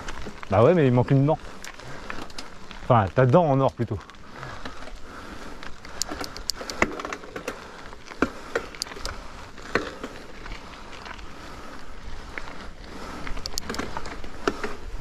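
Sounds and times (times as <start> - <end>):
bike clicks and rattles: 0.0 - 15.0
bike tyres rolling on dirt: 0.0 - 15.0.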